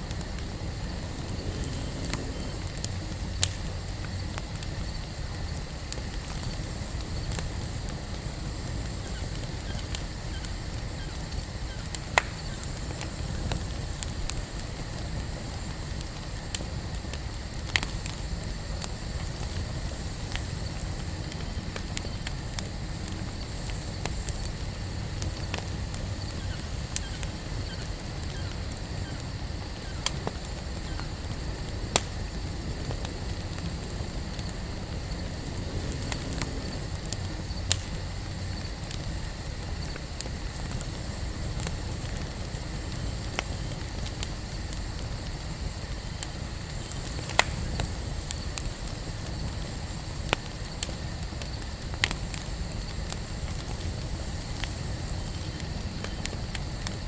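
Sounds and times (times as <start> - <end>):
campfire flames rushing: 0.0 - 57.0
fire crackling and popping: 0.0 - 57.0.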